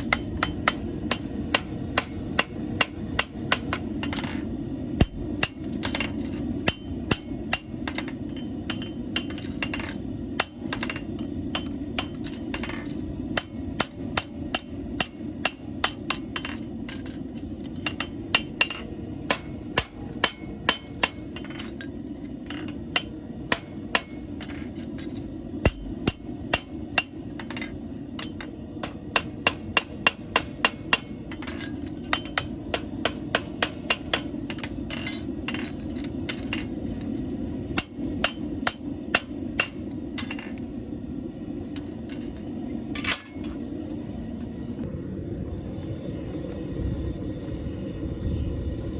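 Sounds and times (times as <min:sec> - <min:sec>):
hammer striking steel horseshoe: 0:00.0 - 0:40.6, 0:41.8 - 0:43.6
steady low hum: 0:00.0 - 0:48.9.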